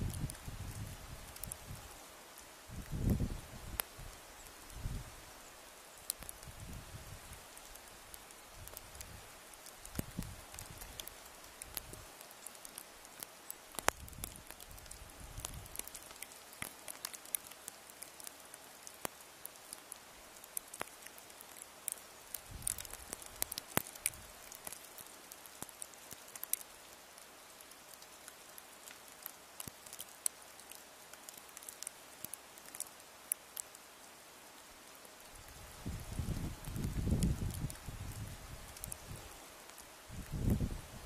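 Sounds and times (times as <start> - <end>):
faint steady hiss: 0.0 - 41.0.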